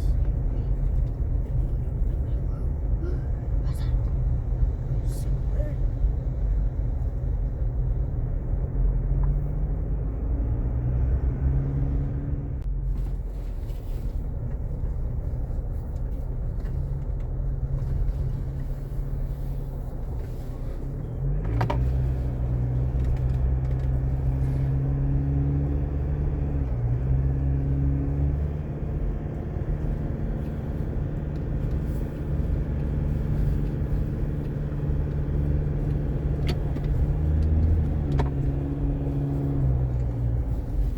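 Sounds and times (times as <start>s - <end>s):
vehicle engine running: 0.0s - 9.9s, 11.2s - 40.9s.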